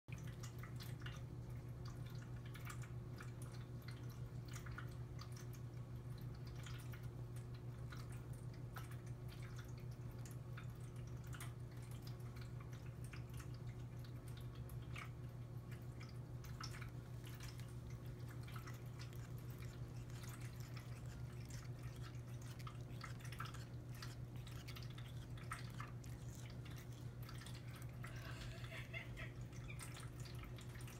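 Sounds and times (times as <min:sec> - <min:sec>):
cat chewing wet clicks: 0:00.1 - 0:30.9
steady low hum: 0:00.1 - 0:30.9.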